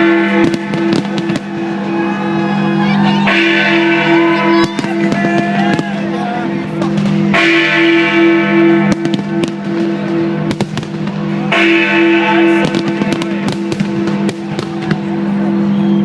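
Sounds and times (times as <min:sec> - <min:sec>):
fireworks cracking and banging: 0:00.0 - 0:15.4.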